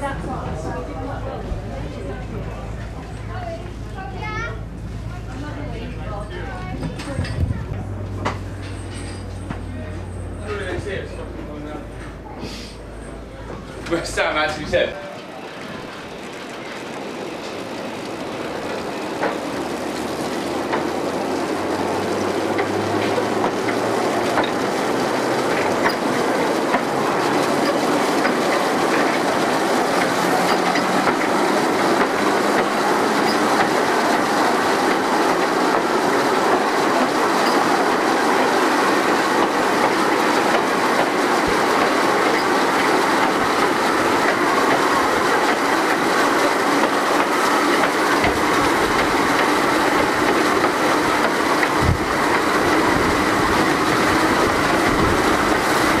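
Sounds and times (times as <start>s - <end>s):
electric train wheels rattling on rails: 0.0s - 56.0s.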